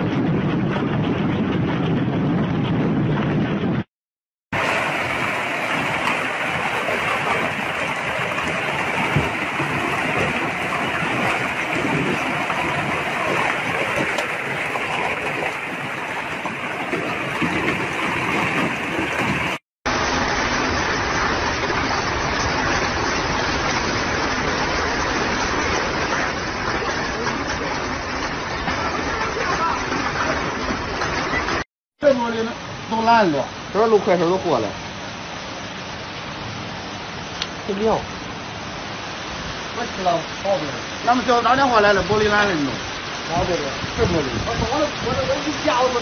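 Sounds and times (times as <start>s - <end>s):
hail and rain on street: 4.6s - 34.7s, 37.3s - 46.0s.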